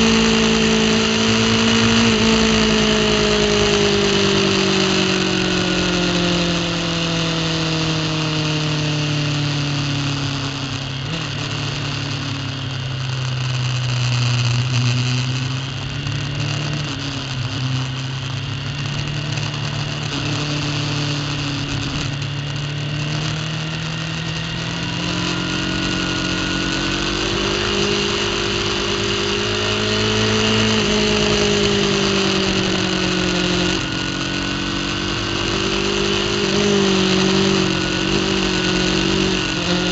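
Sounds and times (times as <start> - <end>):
superbike engine at speed: 0.0 - 39.9.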